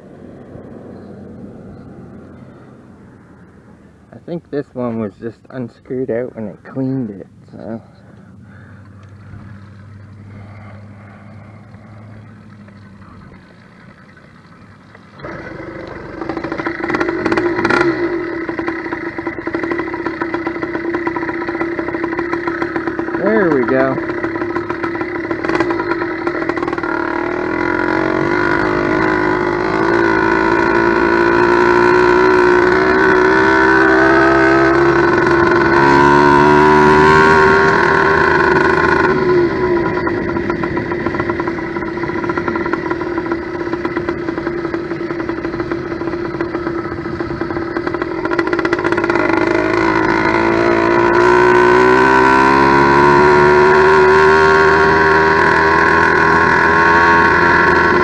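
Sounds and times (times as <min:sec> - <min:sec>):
two-stroke engine revving: 0:08.5 - 0:58.0.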